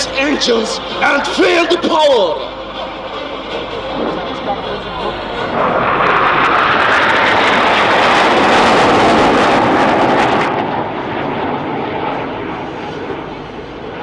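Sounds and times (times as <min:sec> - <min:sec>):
jet aircraft roar: 0:00.0 - 0:14.0.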